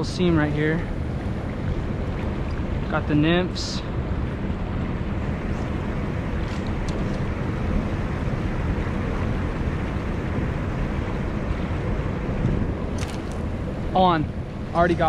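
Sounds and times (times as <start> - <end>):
flowing creek: 0.0 - 15.0
wind buffeting microphone: 0.0 - 15.0.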